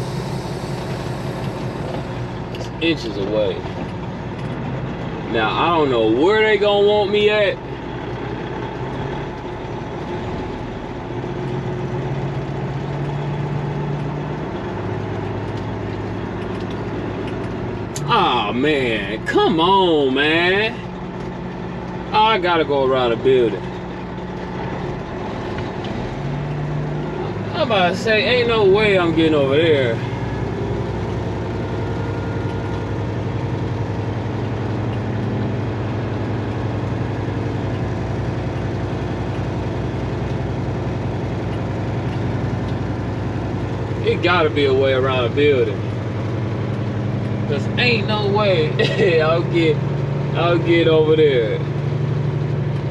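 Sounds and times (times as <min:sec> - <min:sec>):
diesel truck engine running: 0:00.0 - 0:52.9.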